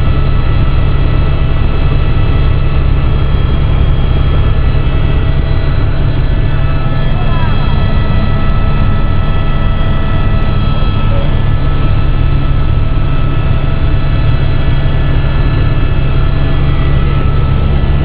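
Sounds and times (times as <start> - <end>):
aircraft engine drone: 0.0 - 18.0
constant whining tones: 0.0 - 18.0.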